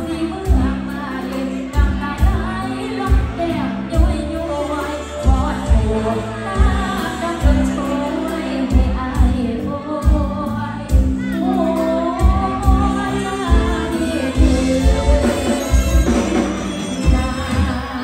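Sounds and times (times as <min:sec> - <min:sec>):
live band playing: 0:00.0 - 0:18.0
woman singing: 0:00.0 - 0:18.0.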